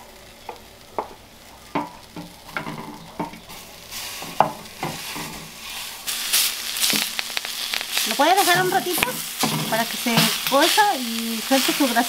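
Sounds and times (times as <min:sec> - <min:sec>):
sausage sizzling: 0:00.0 - 0:12.0.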